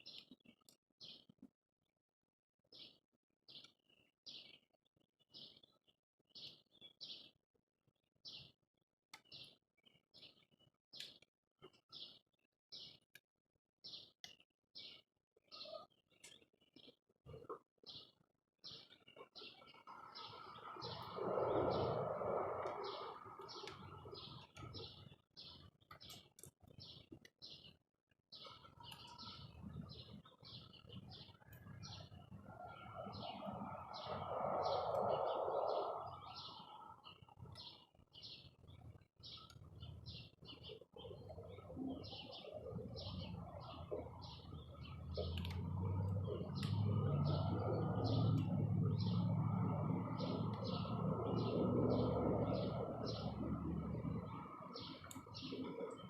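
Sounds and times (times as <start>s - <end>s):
small birds chirping: 0.0s - 1.6s, 2.7s - 56.0s.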